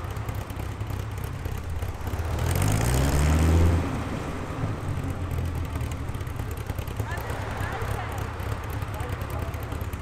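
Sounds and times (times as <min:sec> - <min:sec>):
car engine revving and idling: 0:00.0 - 0:10.0.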